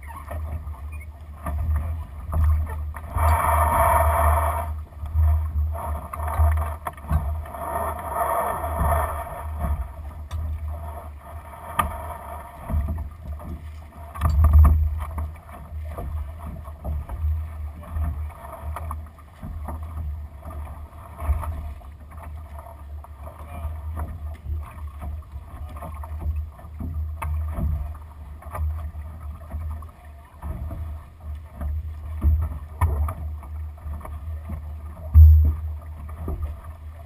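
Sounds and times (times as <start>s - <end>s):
water washing along hull: 0.0s - 37.0s.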